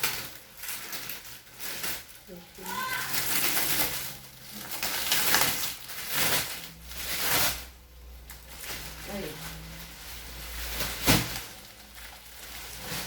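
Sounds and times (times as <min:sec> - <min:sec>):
plastic wrapping rustling: 0:00.0 - 0:13.0.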